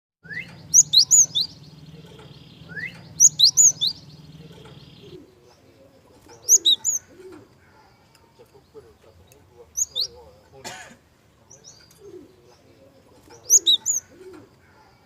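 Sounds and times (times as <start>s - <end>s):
bird chirping: 0.2s - 10.6s, 11.4s - 15.0s
faint steady hum: 0.4s - 15.0s.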